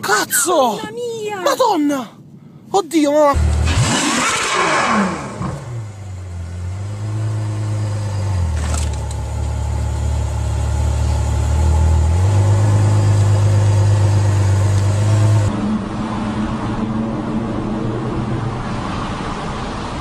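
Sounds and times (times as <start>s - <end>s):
car engine at low revs: 3.4s - 20.0s.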